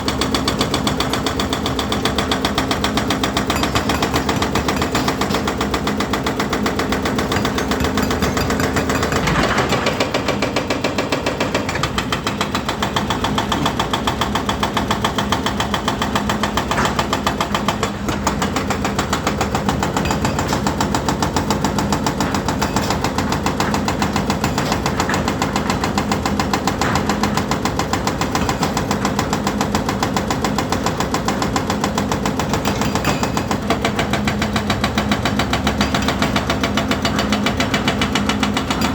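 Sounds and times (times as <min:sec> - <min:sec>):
excavator diesel engine running: 0:00.0 - 0:32.6.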